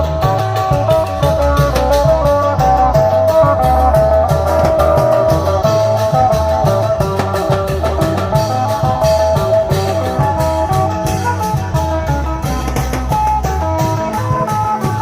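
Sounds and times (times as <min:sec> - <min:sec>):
drum band playing: 0:00.0 - 0:15.0
plucked-string melody: 0:00.0 - 0:15.0.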